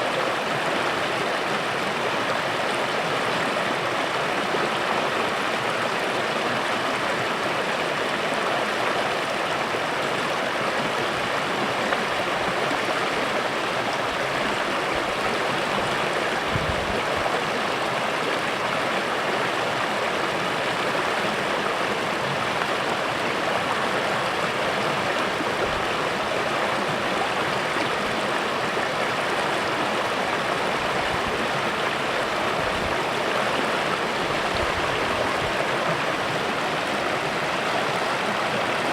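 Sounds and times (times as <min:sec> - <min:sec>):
creek water flowing: 0:00.0 - 0:38.9.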